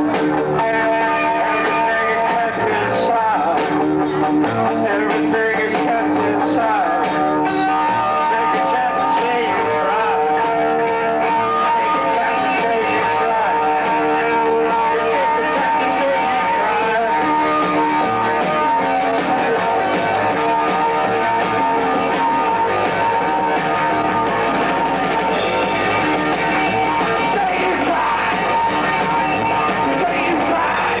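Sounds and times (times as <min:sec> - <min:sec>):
electric guitar: 0:00.0 - 0:31.0
person singing: 0:00.0 - 0:31.0
rock band playing live: 0:00.0 - 0:31.0.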